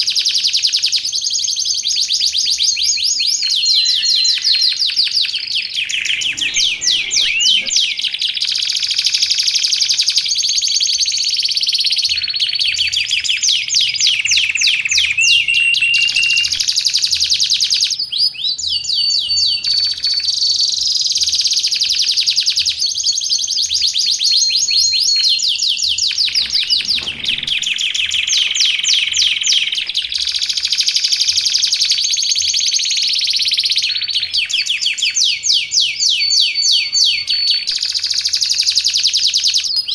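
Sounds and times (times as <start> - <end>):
canary singing trills: 1.3 - 39.9.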